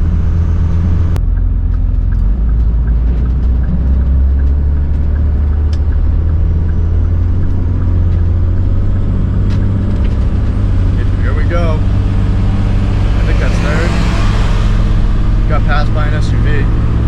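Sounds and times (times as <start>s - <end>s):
diesel pickup engine droning: 0.0s - 17.0s.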